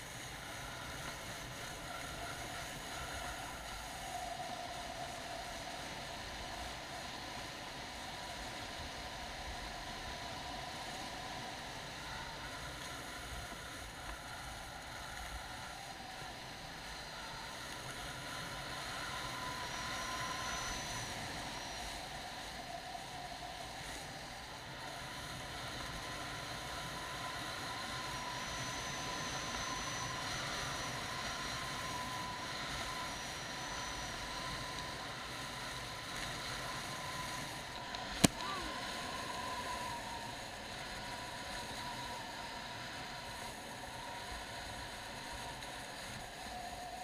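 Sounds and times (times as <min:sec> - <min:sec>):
thin whine: 0:00.0 - 0:47.0.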